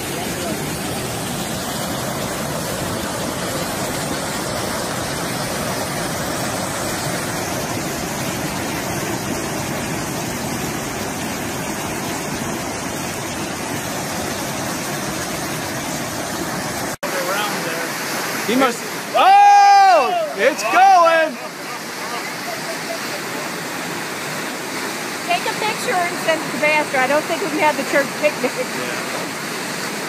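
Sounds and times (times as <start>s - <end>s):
flood water rushing over boulders: 0.0s - 30.0s.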